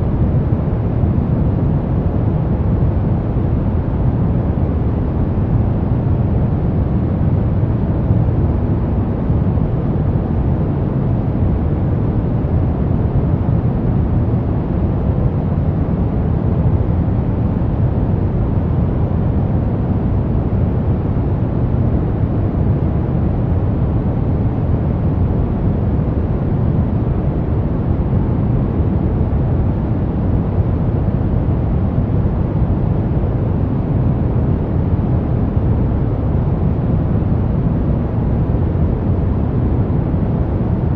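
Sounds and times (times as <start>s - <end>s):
brown noise: 0.0s - 40.9s.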